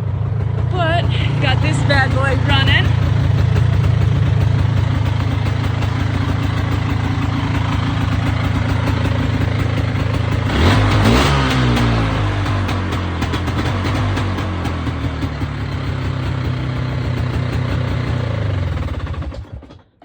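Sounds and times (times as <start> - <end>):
engine idling: 0.0 - 19.8.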